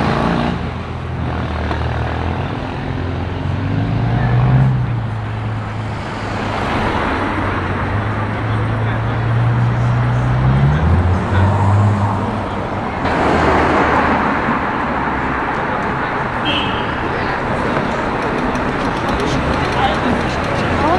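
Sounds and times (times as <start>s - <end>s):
passing traffic rush: 0.0s - 20.9s
vehicle engine humming: 2.0s - 20.9s.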